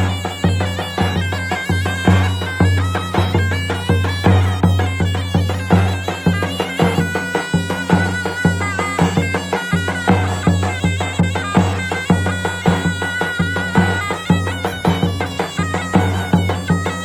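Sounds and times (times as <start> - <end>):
shrill reed melody: 0.0 - 17.0.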